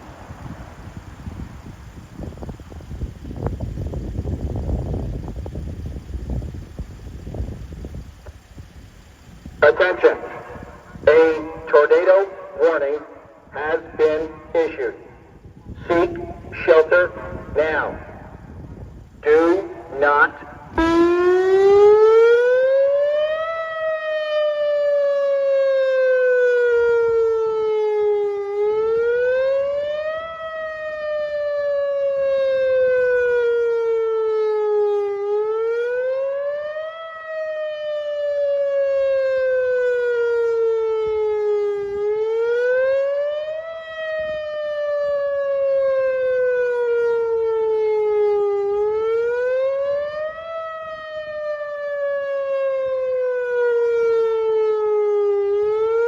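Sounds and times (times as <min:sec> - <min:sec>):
wailing warning siren: 0:00.0 - 0:56.0.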